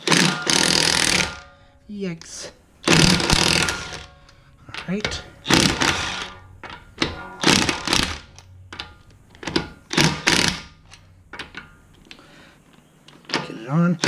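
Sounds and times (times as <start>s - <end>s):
metal hand tools clunking: 0.0s - 12.5s.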